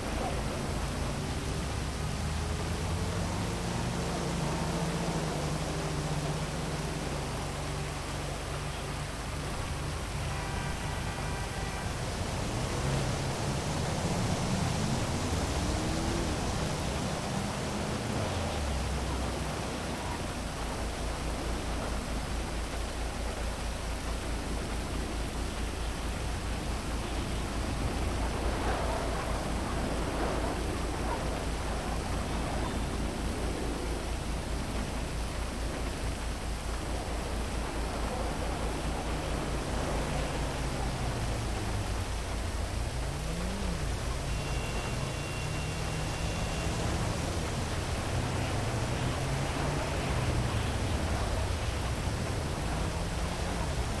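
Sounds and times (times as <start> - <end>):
vehicle engine passing: 0.0 - 22.0, 26.0 - 54.0
city traffic: 0.0 - 54.0
heavy rain hissing: 0.0 - 54.0.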